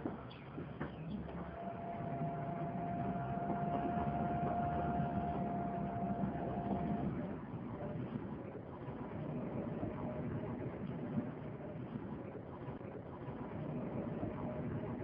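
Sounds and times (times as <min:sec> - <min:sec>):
steady whine: 0:00.0 - 0:15.0
vehicle mechanical rumble: 0:00.0 - 0:15.0.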